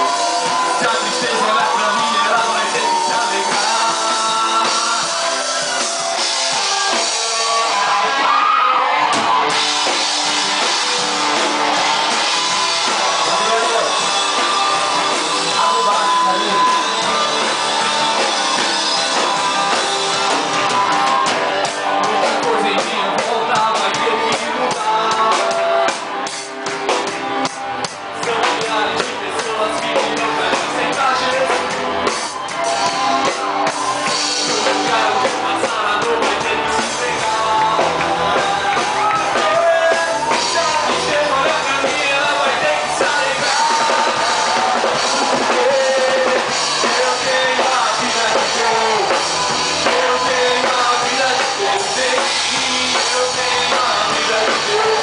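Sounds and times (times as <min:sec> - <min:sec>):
gospel band playing upbeat song: 0:00.0 - 0:55.0.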